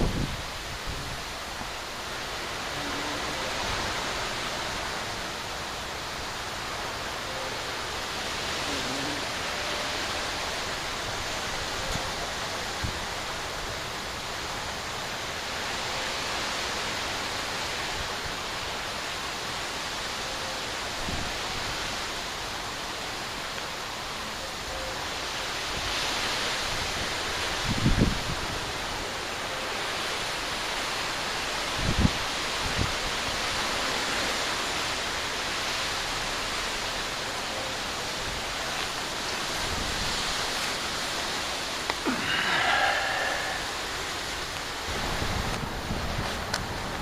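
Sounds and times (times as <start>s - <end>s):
water rushing: 0.0s - 47.0s.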